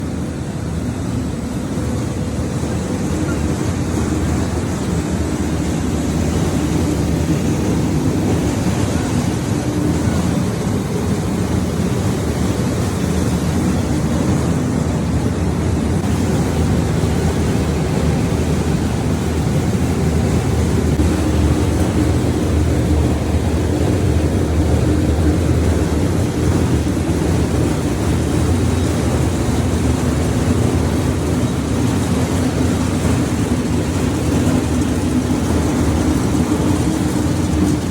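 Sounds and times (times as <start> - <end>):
production line machinery humming: 0.0 - 37.9.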